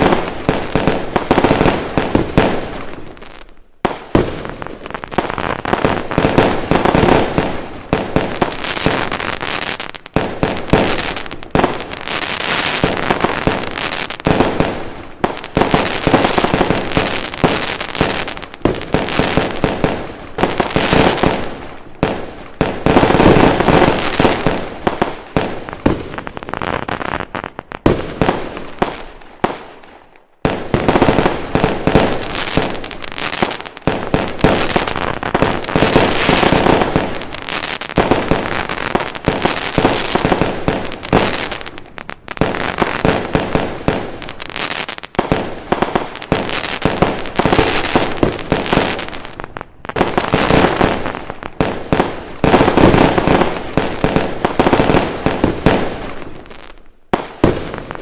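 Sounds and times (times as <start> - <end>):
fireworks crackling bangs: 0.0 - 58.0.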